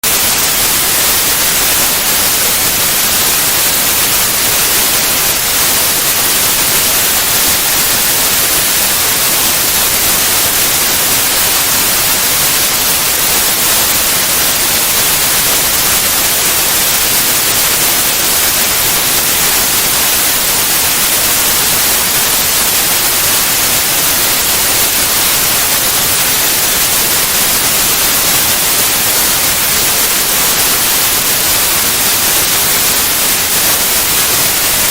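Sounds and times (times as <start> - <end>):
white noise hiss: 0.0 - 34.9.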